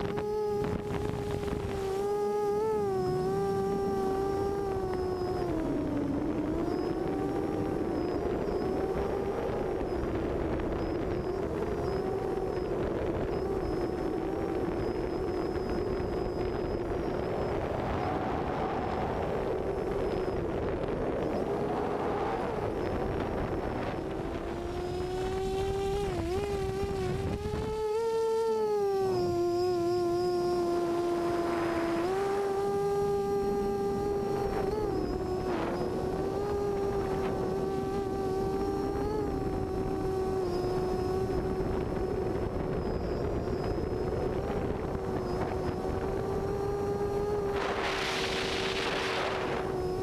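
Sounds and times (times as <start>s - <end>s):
quadcopter motors whining: 0.0s - 50.0s
wind noise: 0.0s - 50.0s.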